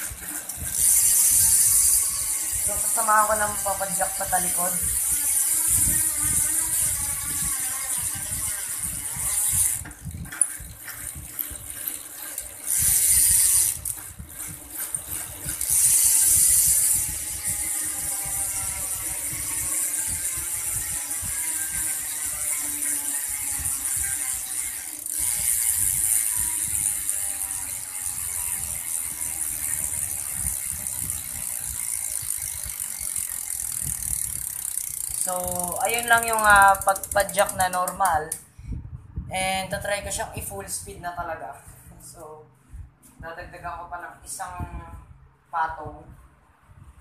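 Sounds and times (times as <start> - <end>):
bicycle hub ratcheting: 0.0 - 38.6.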